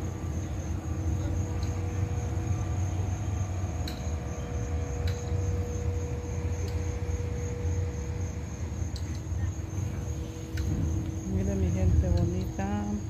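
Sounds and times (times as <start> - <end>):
engine rumbling: 0.0 - 13.0
faint insect trill: 0.0 - 13.0.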